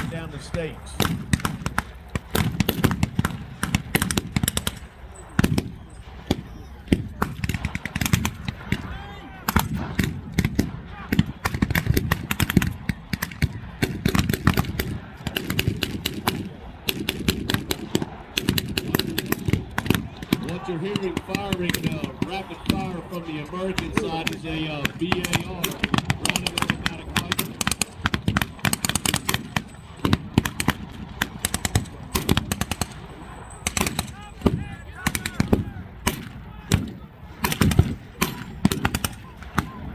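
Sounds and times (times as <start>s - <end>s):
automatic rifle fire: 0.0s - 39.9s
blank gunfire shots: 0.0s - 39.9s.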